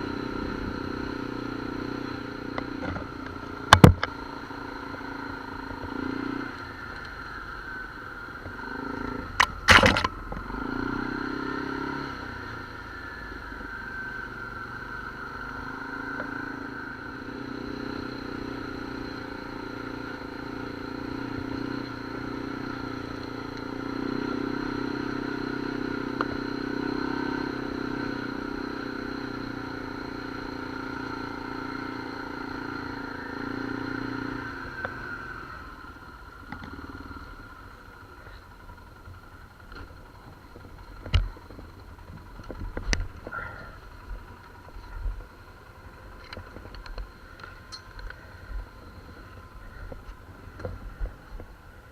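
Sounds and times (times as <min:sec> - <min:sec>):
off-road vehicle engine running: 0:00.0 - 0:51.9.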